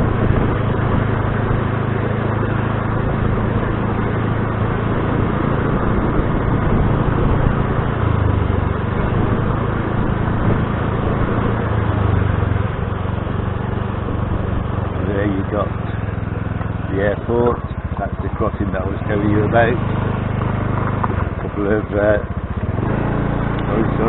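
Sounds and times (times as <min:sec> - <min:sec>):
motor scooter engine running: 0:00.0 - 0:24.0
steady rushing noise: 0:00.0 - 0:24.0.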